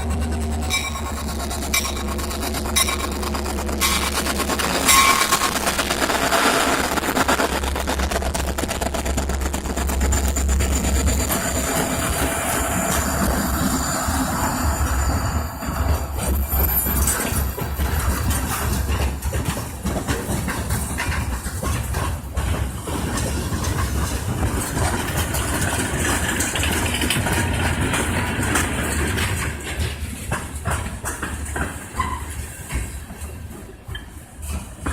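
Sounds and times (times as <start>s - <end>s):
freight train rumbling past: 0.0s - 34.9s
locomotive engine drone: 0.0s - 34.9s
wheels clicking on rails: 0.0s - 34.9s.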